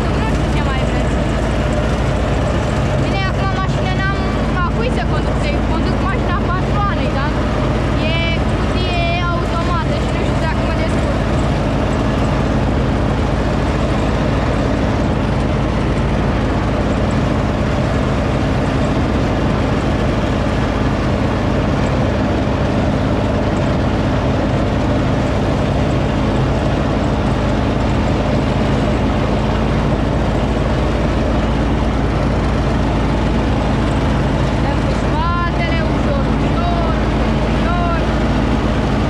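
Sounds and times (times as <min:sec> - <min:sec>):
lawn tractor engine running: 0:00.0 - 0:39.0.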